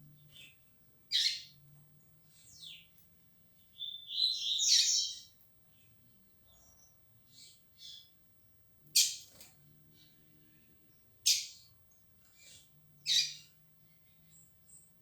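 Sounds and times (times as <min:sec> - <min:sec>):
bird singing: 0:00.0 - 0:03.0, 0:03.6 - 0:08.2, 0:08.9 - 0:15.0.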